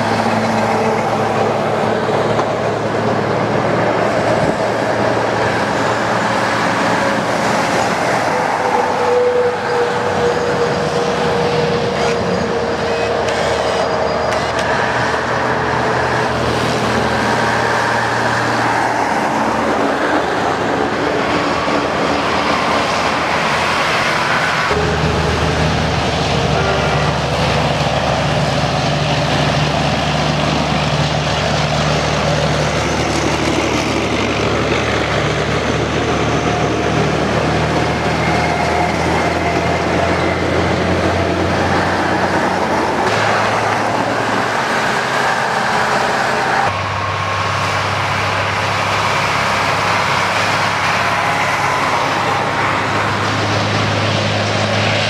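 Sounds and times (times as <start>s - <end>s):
military trucks driving past: 0.0s - 55.0s
tyres hissing on wet road: 0.0s - 55.0s.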